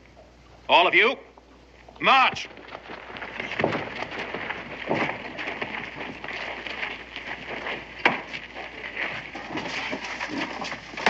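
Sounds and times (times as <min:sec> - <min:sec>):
footsteps shuffling on dirt: 0:01.7 - 0:11.0.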